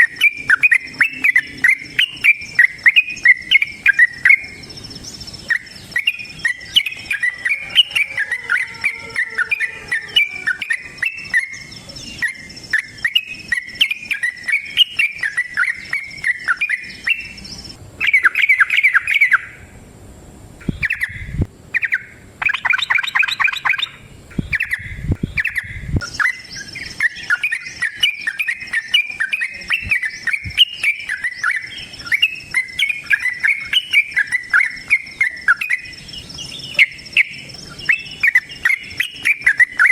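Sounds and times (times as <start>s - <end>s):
bulbul chattering song: 0.0s - 19.8s, 20.6s - 39.9s
steady high-pitched hum: 0.0s - 39.9s.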